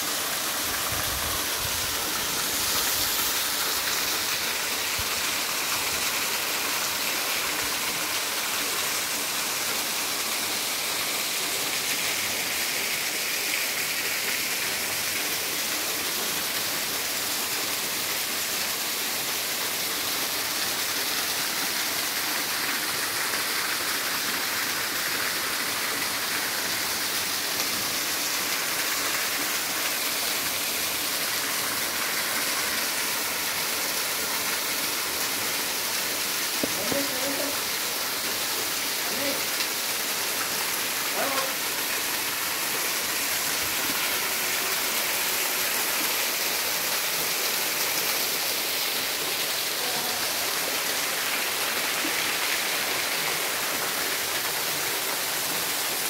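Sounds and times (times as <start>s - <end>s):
waterfall splashing: 0.0s - 56.0s.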